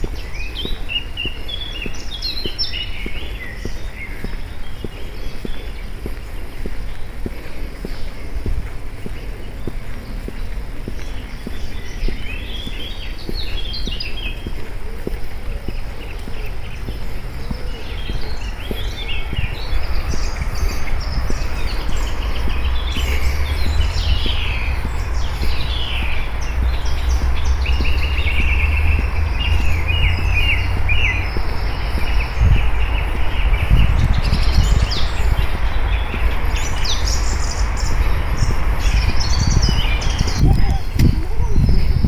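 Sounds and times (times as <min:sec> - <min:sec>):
songbirds chirping and trilling: 0:00.0 - 0:42.0
steady low rumble: 0:00.0 - 0:42.0.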